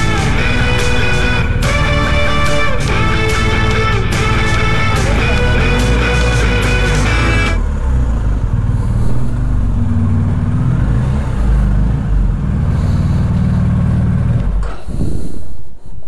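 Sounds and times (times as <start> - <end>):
motorcycle engine at low revs: 0.0 - 15.2.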